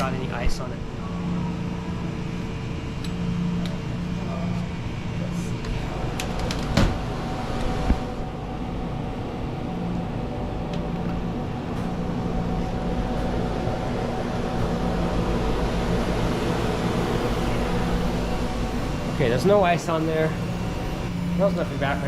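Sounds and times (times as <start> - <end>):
refrigerator humming and whirring: 0.0 - 22.0.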